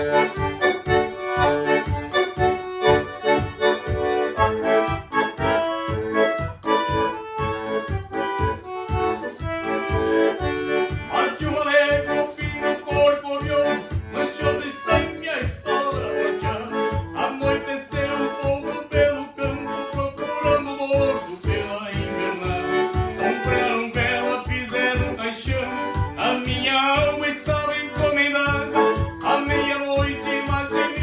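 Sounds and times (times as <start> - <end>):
bandoneon playing folk melody: 0.0 - 31.0.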